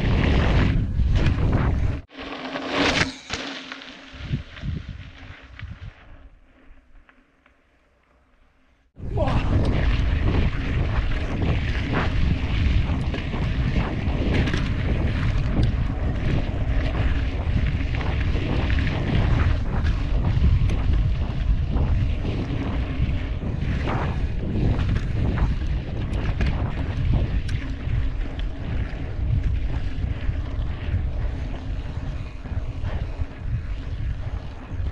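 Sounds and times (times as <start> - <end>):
wind buffeting microphone: 0.0 - 2.1, 4.1 - 6.2, 9.0 - 34.9
bike clicks and rattles: 0.0 - 6.0, 9.6 - 34.9.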